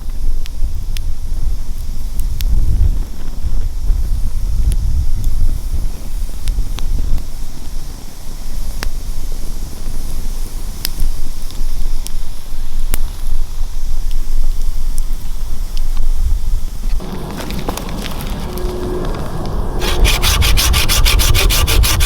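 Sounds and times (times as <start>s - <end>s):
wind rumbling on microphone: 0.0s - 12.0s, 13.5s - 22.0s
sharp crackles and pops: 0.0s - 22.0s.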